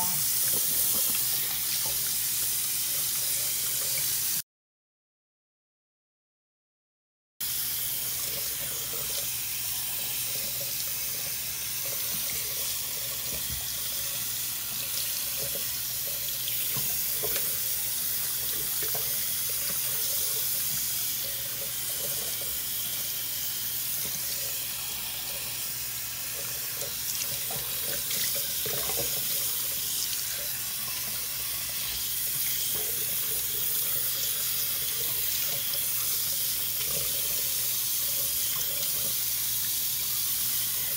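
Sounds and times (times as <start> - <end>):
faucet running: 0.0 - 4.4, 7.4 - 40.9.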